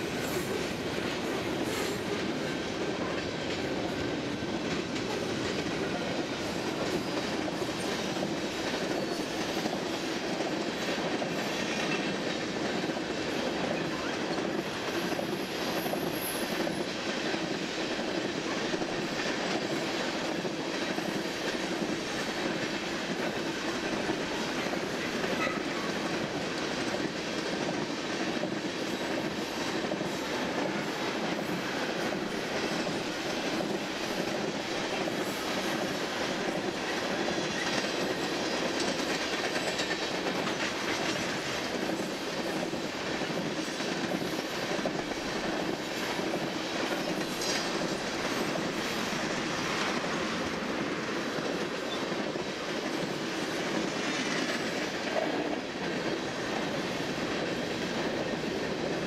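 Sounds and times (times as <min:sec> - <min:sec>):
steel wheels rolling on rail: 0:00.0 - 0:59.0.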